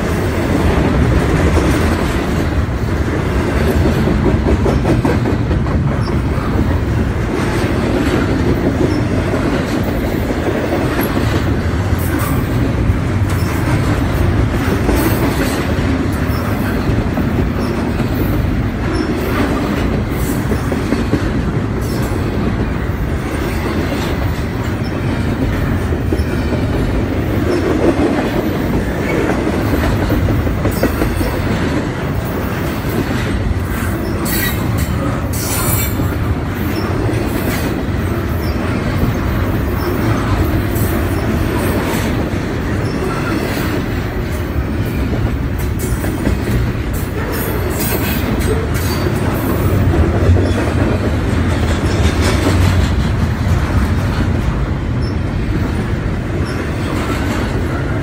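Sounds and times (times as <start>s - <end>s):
freight train wheels rumbling: 0.0s - 58.0s
wheels clanking over rail joints: 0.0s - 58.0s.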